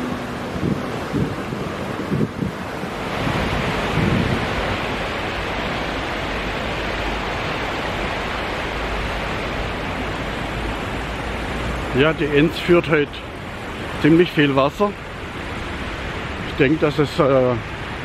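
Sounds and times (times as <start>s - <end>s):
river rushing over rapids: 0.0s - 18.0s.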